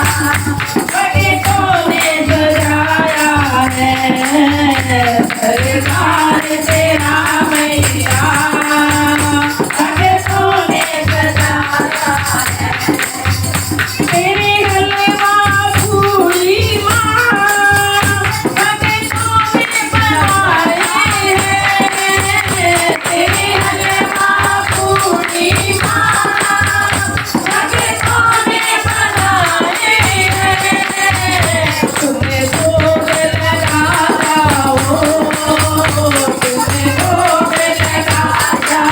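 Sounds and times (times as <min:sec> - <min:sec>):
jingling percussion: 0:00.0 - 0:38.9.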